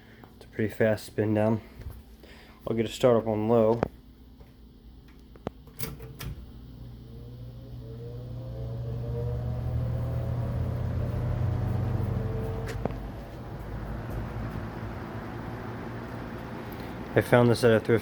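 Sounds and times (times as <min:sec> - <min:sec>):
fan motor hum and whine: 0:00.0 - 0:18.0.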